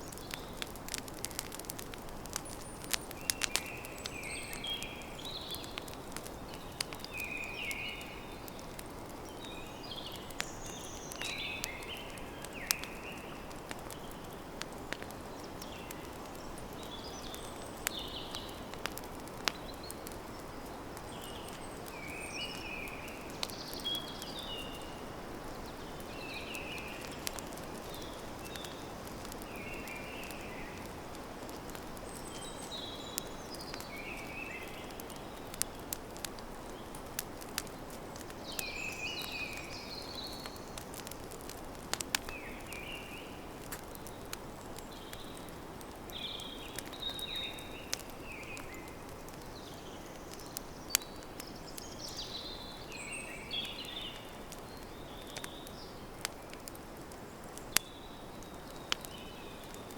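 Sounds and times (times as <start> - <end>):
birds chirping: 0.0 - 35.9, 36.7 - 56.7
campfire burning: 0.0 - 59.9
fire crackles and pops: 0.0 - 59.9.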